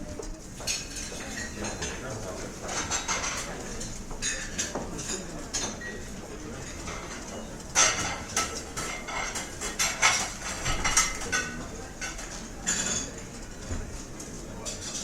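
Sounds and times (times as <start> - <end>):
low murmur of room: 0.0 - 15.0
cutlery and dishes clinking: 0.6 - 15.0.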